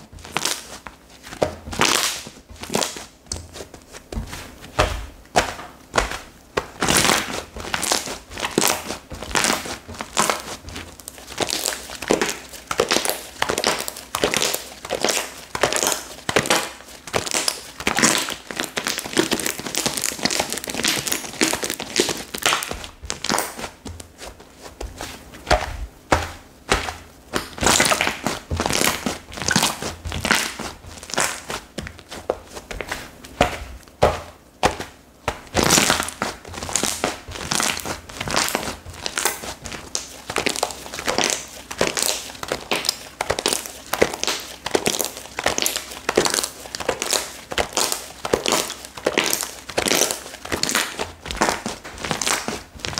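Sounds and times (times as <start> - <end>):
slime squishing and popping: 0.0 - 0.8, 1.4 - 3.6, 4.7 - 24.2, 24.8 - 52.9.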